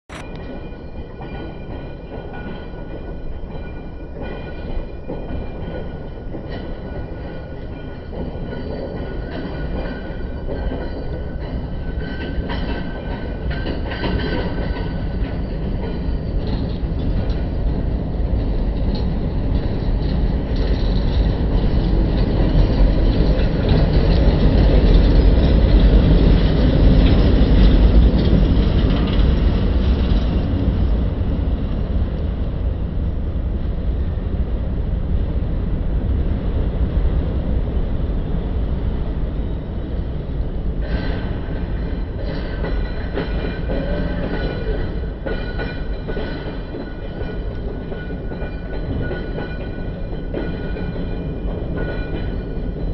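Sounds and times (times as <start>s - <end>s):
roller coaster chain lift clatter: 0.1s - 31.2s, 40.8s - 52.9s.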